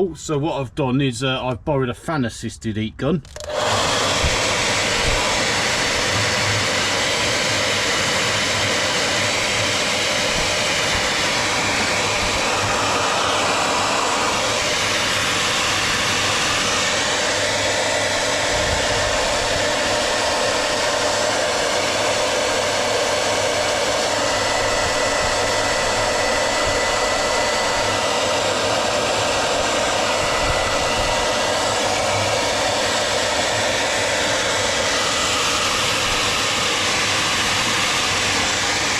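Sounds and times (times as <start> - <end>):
heat gun blowing air: 3.2 - 38.9.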